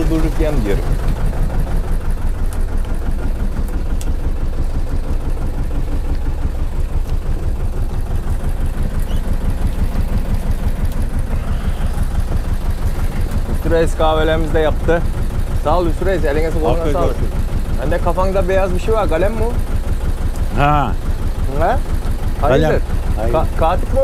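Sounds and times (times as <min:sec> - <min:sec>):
boat diesel engine running: 0:00.0 - 0:24.0.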